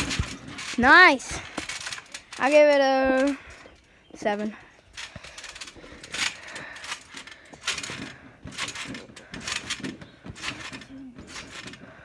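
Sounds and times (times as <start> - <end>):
trampoline springs creaking: 0.0 - 12.0.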